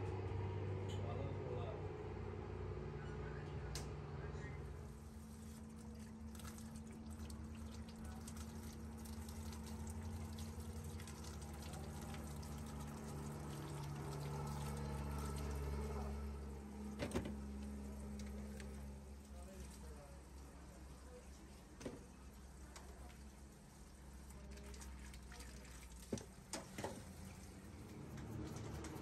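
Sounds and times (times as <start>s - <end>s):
low steady hum: 0.0s - 29.0s
tap water running and splashing: 5.0s - 29.0s.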